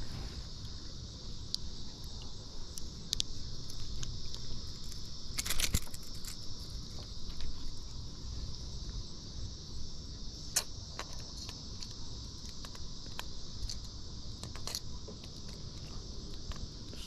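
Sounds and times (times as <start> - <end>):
high drone of insects: 0.0 - 17.0.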